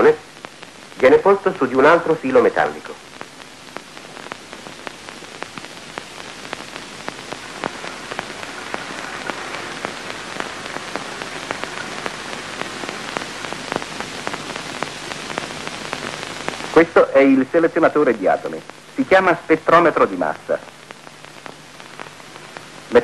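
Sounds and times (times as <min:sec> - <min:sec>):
crackling clicks: 0:00.0 - 0:23.0
film soundtrack hiss: 0:00.0 - 0:23.0.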